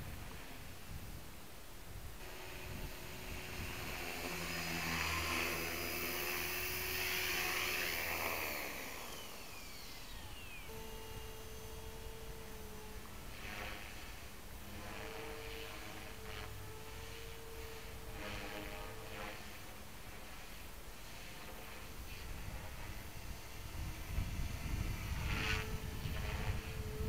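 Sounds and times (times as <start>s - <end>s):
rc helicopter rotor and motor whine: 0.0s - 27.0s.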